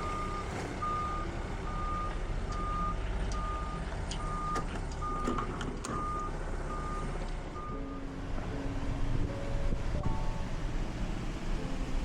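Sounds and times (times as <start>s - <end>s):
engine running low: 0.0s - 12.0s.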